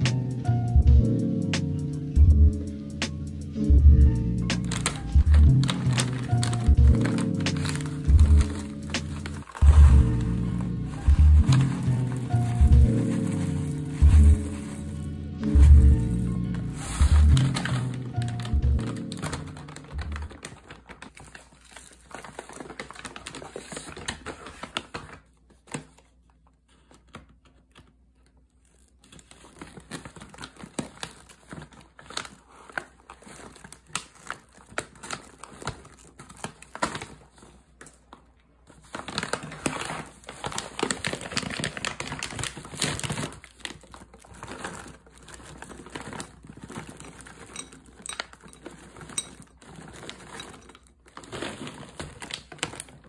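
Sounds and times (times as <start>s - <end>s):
plastic bags crinkling: 4.4s - 53.0s.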